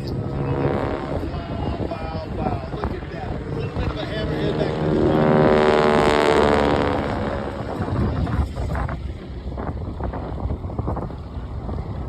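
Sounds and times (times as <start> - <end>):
propeller aircraft passing: 0.0 - 12.0
wind buffeting microphone: 0.0 - 12.0.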